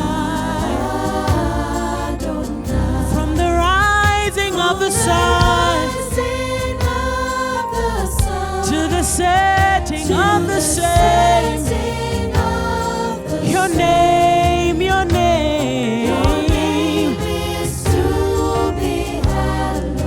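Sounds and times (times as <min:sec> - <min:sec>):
band playing sustained chords: 0:00.0 - 0:20.0
person singing: 0:00.0 - 0:20.0.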